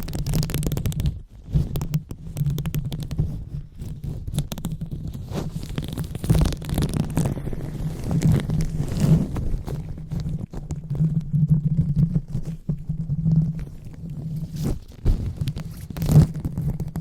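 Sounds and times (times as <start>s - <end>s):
rubbing on a microphone: 0.0s - 17.0s
small crackles and clicks: 0.0s - 17.0s.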